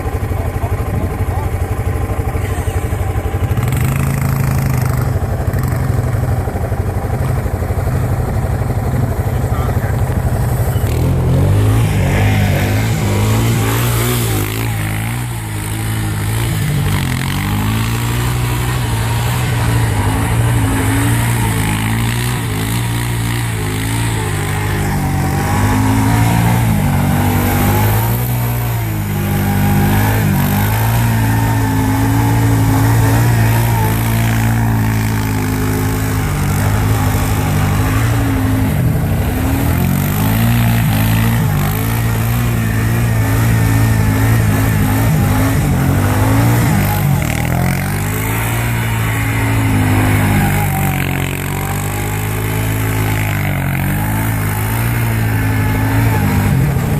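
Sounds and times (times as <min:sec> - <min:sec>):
small petrol engine running: 0:00.0 - 0:56.9.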